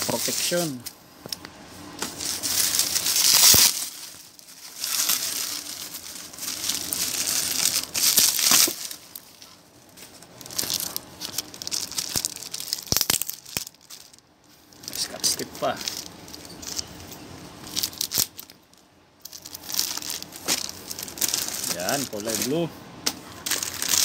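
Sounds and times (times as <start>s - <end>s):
bubble wrap and plastic crinkling: 0.0s - 24.0s.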